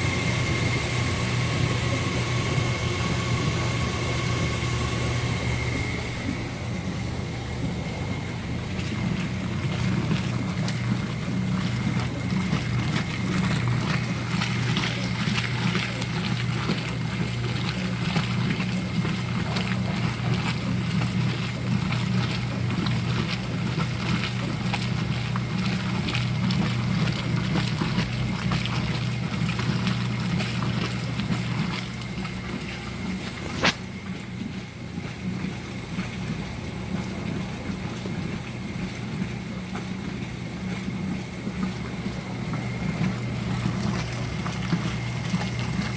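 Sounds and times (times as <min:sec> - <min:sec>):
washing machine motor humming: 0:00.0 - 0:45.9
water sloshing in a tub: 0:00.0 - 0:45.9.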